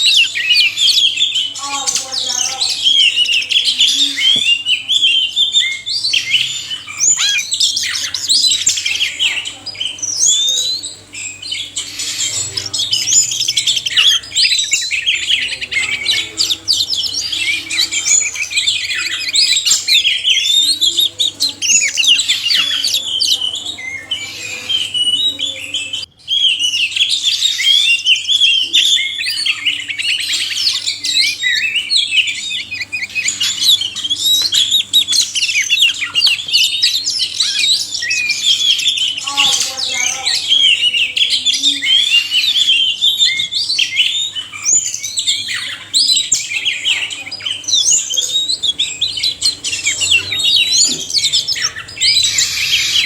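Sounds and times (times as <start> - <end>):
birds singing: 0.0 - 53.0.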